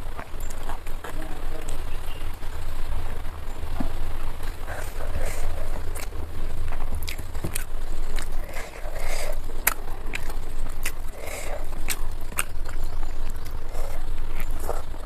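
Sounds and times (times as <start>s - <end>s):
wet mouth chewing clicks: 0.0s - 1.8s, 4.4s - 15.0s
low steady hum: 0.0s - 15.0s.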